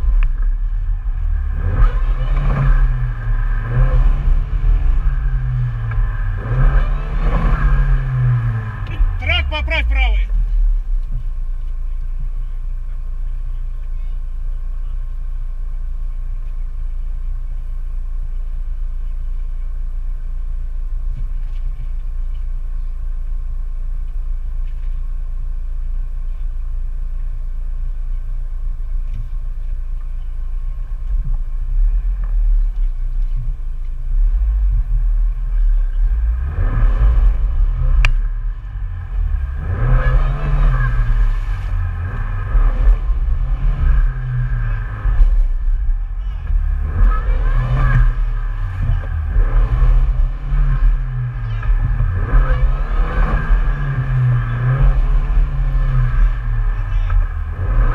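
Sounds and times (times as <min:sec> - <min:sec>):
vehicle engine idling and revving: 0:00.0 - 0:57.9.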